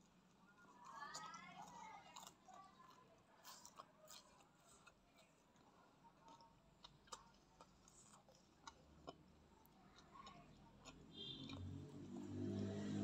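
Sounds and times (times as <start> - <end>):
eating sounds with wet clicks: 0.2 - 13.0.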